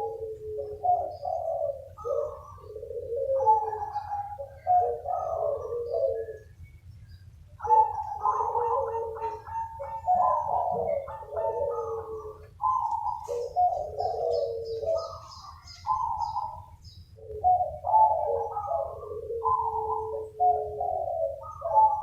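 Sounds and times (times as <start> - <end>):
doves cooing: 0.0 - 22.0
small bird chirping: 0.7 - 20.6.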